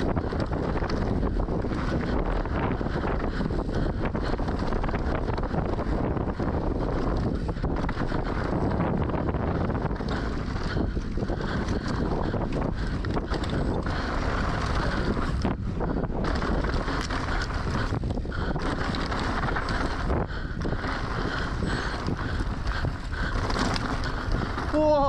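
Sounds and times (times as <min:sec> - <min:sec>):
bike knocks and rattles: 0:00.0 - 0:25.0
bike tyre noise: 0:00.0 - 0:25.0
wind buffeting microphone: 0:00.0 - 0:25.0.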